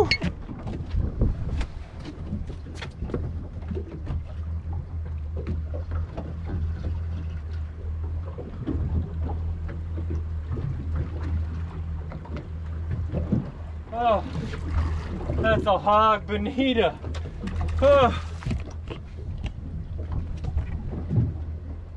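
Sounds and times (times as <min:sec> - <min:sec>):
outboard engines idling: 0:00.0 - 0:21.9.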